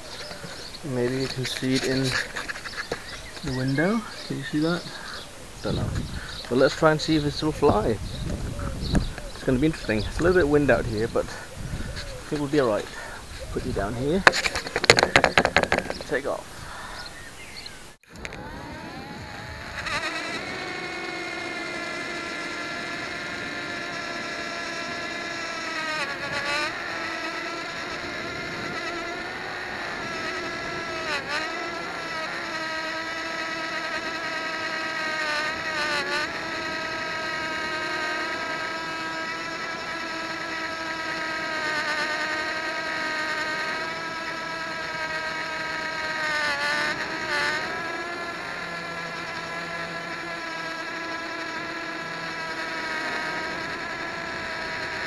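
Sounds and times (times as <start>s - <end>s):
quadcopter propellers whining: 0.0s - 55.0s.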